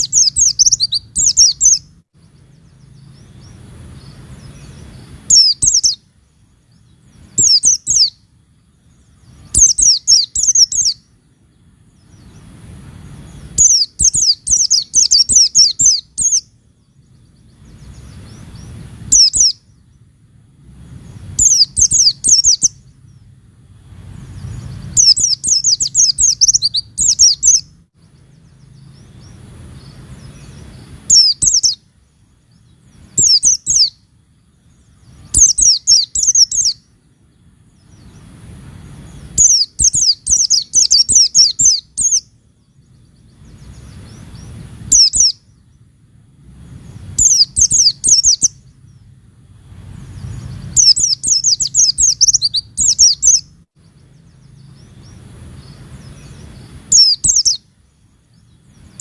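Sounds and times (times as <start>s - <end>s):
bird twittering high-pitched: 0.0s - 59.0s.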